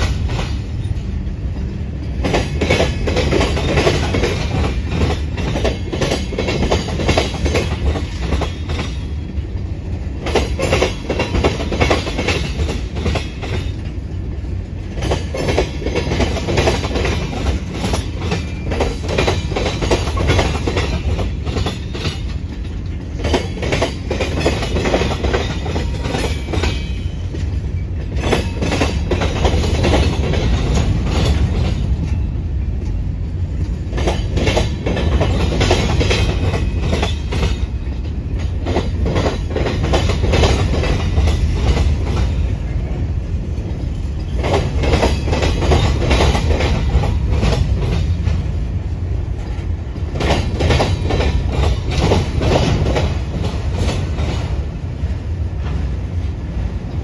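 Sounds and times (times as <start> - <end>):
train rumbling past: 0.0 - 57.0
wheels clacking on track: 0.0 - 57.0.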